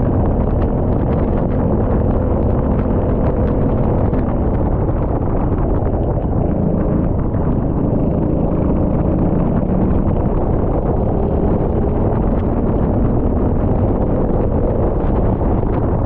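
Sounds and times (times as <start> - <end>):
go-kart engine running: 0.0 - 16.0.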